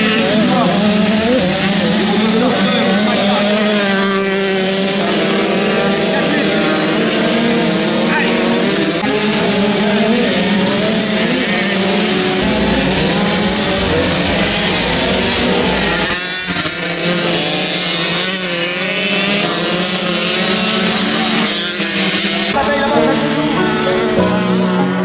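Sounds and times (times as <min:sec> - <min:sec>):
racing motorcycles revving: 0:00.0 - 0:25.0.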